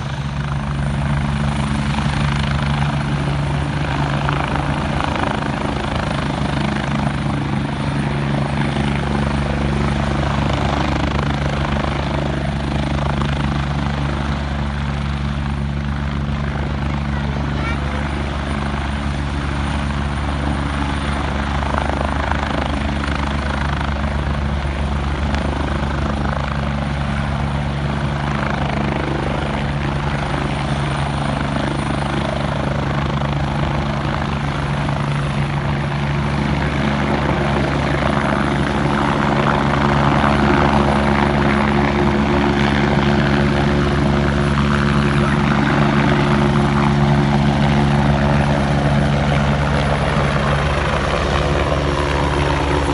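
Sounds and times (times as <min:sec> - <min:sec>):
helicopter rotor and engine: 0:00.0 - 0:52.9.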